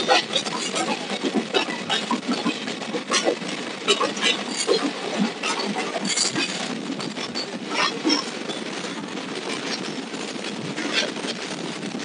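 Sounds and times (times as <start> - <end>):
steady rushing noise: 0.0 - 12.0
train coach clanking and rattling: 0.0 - 12.0.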